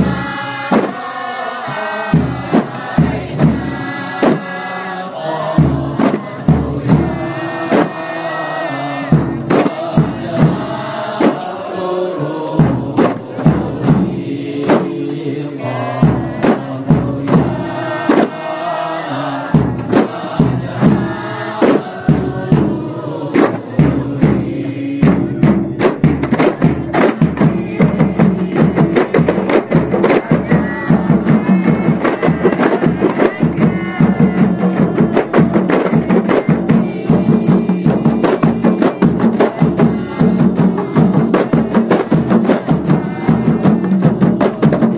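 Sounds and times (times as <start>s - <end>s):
frame drums playing: 0.0s - 4.6s, 5.2s - 11.8s, 12.4s - 15.0s, 19.4s - 44.9s
men chanting: 0.0s - 44.9s.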